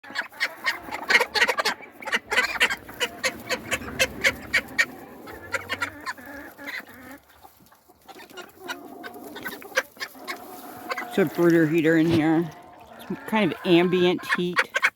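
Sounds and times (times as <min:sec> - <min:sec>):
poultry clucking: 0:00.0 - 0:14.9.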